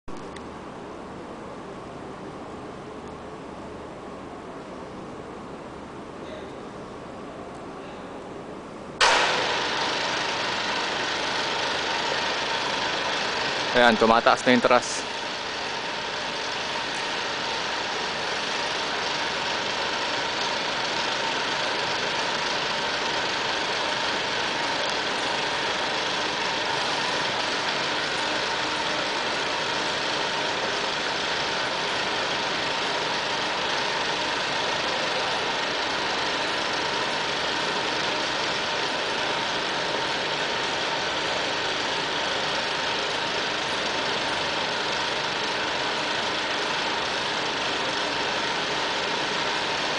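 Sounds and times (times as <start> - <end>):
motorised hoists humming: 0.1 - 49.9.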